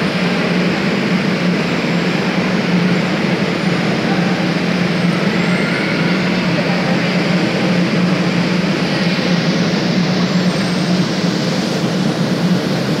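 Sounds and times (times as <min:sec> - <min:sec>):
cable car machinery humming: 0:00.0 - 0:13.0.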